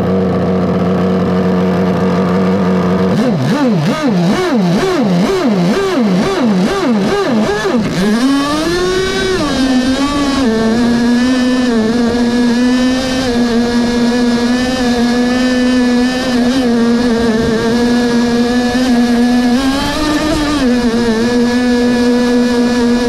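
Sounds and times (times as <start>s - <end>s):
model boat engine running: 0.0s - 23.0s.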